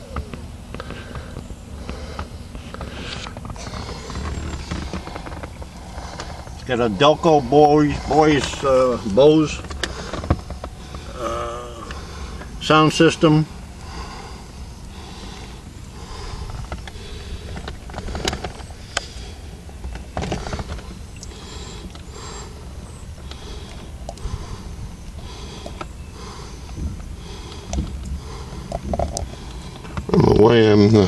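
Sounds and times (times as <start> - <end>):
low steady rumble: 0.0 - 31.0
soft breathing: 0.7 - 30.2.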